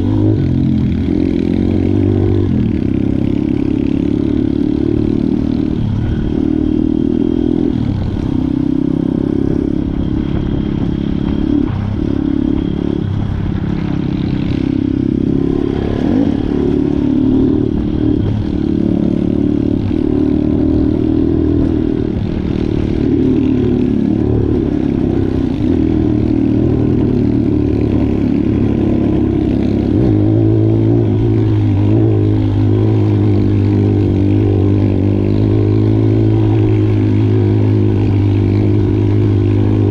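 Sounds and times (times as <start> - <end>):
low engine drone: 0.0 - 39.9
pit bike engine revving: 0.0 - 39.9.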